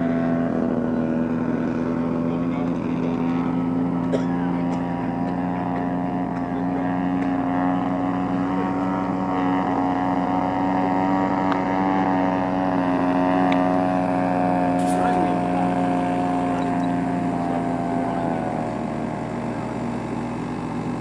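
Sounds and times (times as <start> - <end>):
model plane engine running: 0.0 - 21.0.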